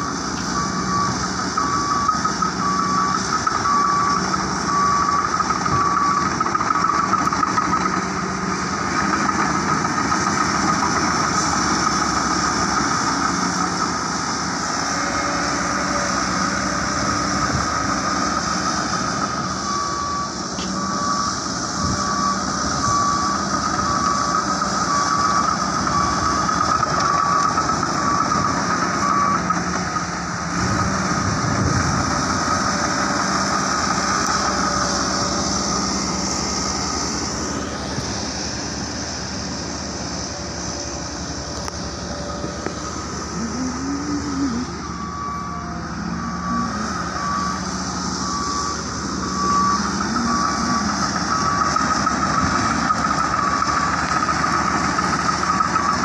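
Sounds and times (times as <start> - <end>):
reversing alarm beeping: 0.0 - 38.3, 39.2 - 56.0
heavy machine diesel engine: 0.0 - 56.0.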